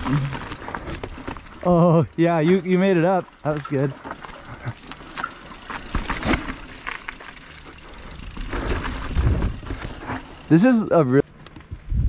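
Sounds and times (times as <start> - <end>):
chain and frame rattle: 0.0 - 10.8
bike tyre rumble: 0.0 - 12.0.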